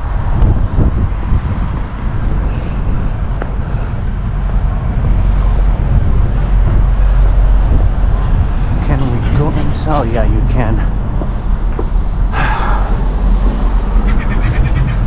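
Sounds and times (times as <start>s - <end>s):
vehicle rumble: 0.0s - 15.0s
wind buffeting microphone: 0.0s - 15.0s.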